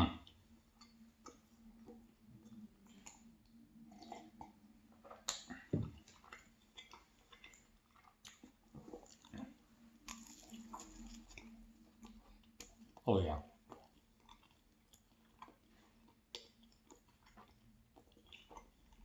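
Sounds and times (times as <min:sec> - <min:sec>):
chewing pastry: 0:00.0 - 0:19.0.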